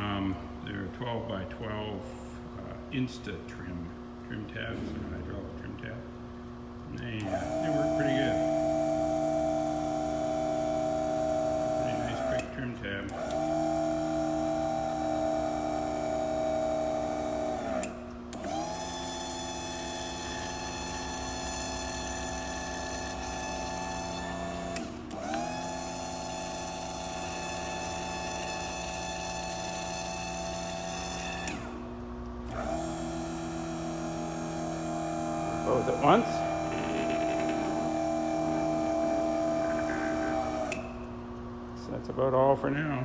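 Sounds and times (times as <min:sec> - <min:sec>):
hydraulic pump motor whining: 0:04.4 - 0:41.7.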